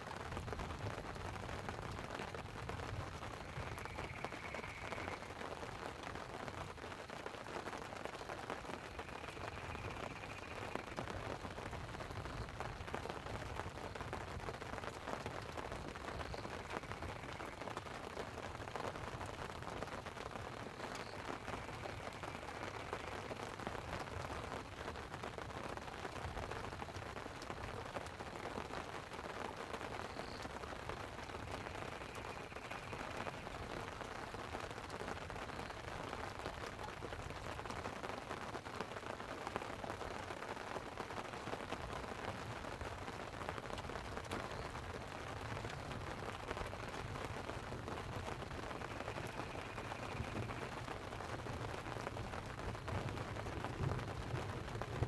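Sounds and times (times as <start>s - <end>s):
rain on a tent: 0.0s - 55.0s.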